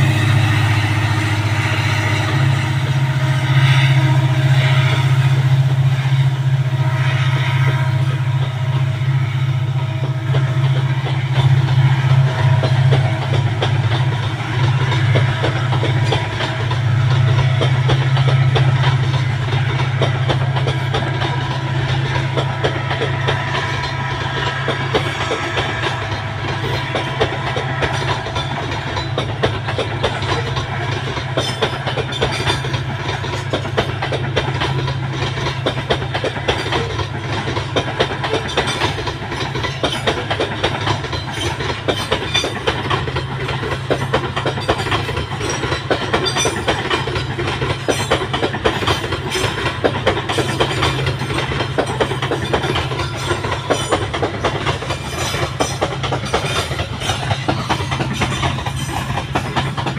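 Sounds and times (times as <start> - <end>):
train wagons rumbling past: 0.0 - 59.9
wheels clattering over rail joints: 10.0 - 59.9.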